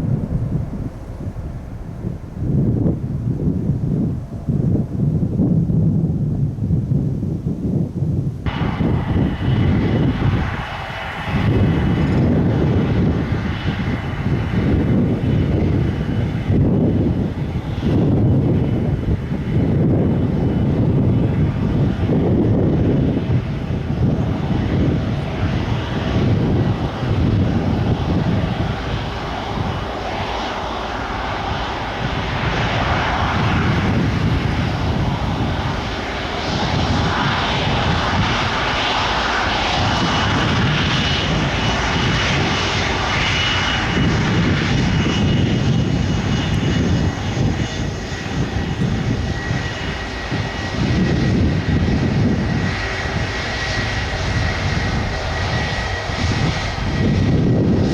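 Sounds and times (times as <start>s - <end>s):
jet engine rumble: 0.0s - 57.9s.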